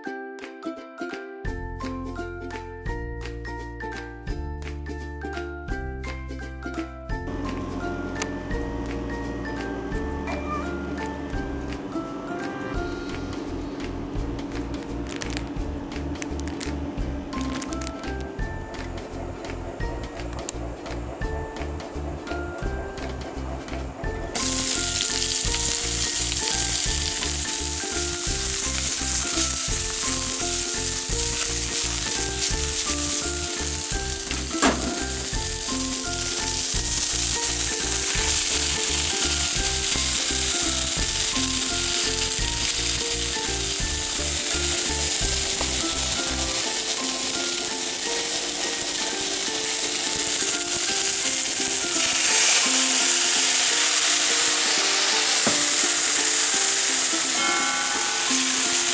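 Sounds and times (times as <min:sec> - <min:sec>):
background music with bass: 0:01.5 - 0:50.4
food sizzling in a wok: 0:07.3 - 0:23.8, 0:24.4 - 0:58.9.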